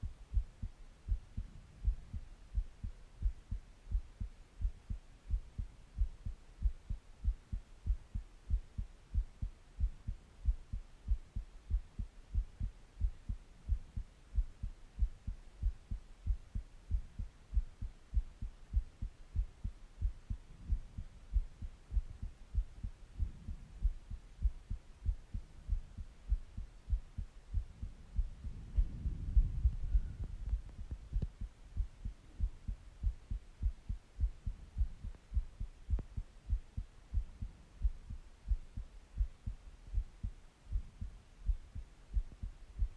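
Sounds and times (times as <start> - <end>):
heartbeat thumps: 0.0 - 42.9.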